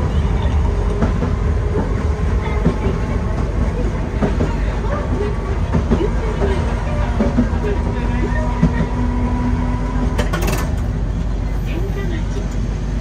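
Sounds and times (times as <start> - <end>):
streetcar wheels rumbling on rails: 0.0 - 13.0.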